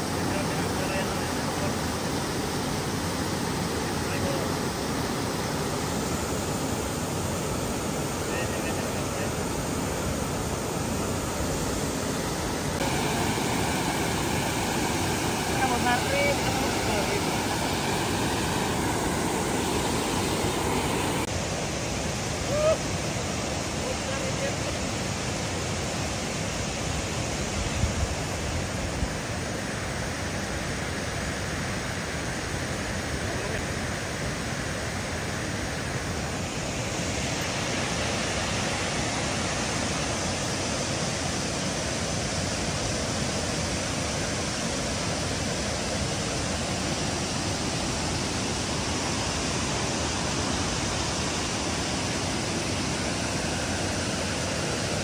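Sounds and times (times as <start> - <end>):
water rushing from floodgates: 0.0 - 55.0.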